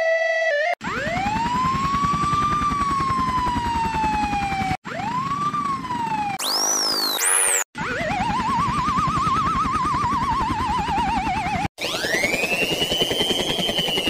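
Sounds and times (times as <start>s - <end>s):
siren winding up and falling: 0.0s - 14.0s
stepped siren tune: 0.0s - 14.0s
helicopter rotor beating: 0.8s - 14.0s.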